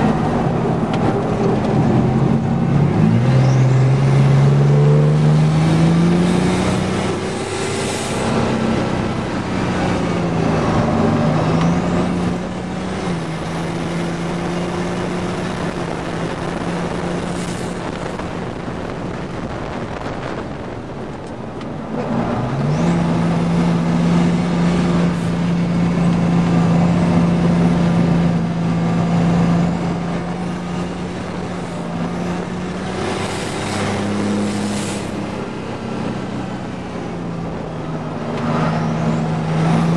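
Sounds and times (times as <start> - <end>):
road and wind noise: 0.0 - 39.9
turbocharged engine revving: 0.0 - 39.9.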